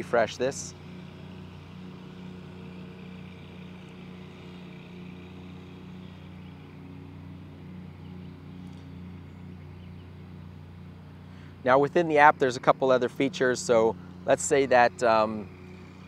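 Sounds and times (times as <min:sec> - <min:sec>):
lawn mower engines humming: 0:00.0 - 0:16.0.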